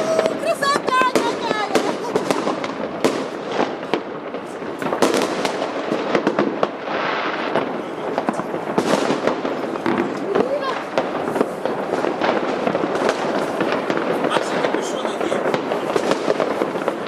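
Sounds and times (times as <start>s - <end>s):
distant explosions: 0.0s - 17.0s
fireworks bangs and crackling: 0.0s - 17.0s.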